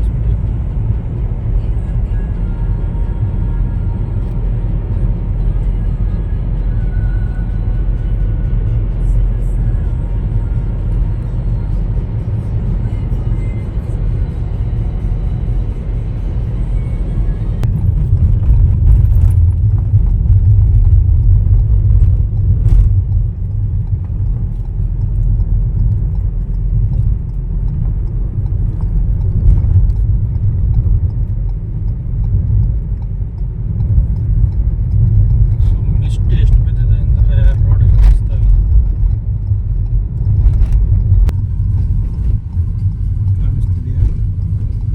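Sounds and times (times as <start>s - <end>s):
vehicle road and wind rumble: 0.0s - 44.9s.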